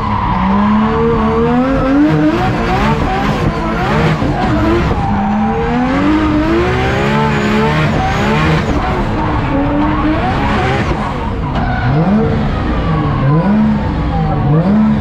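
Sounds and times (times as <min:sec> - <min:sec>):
car engine revving: 0:00.0 - 0:15.0
tyres skidding: 0:00.0 - 0:15.0.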